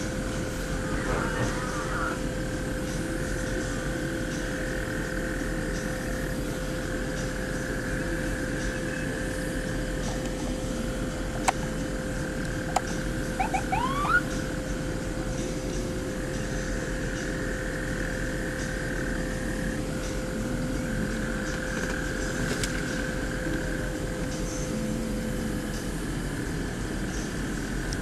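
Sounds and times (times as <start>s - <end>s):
fire engine pump drone: 0.0s - 28.0s.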